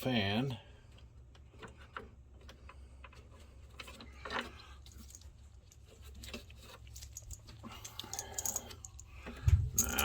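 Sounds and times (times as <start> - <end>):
handling clicks and rubbing: 1.6 - 10.0.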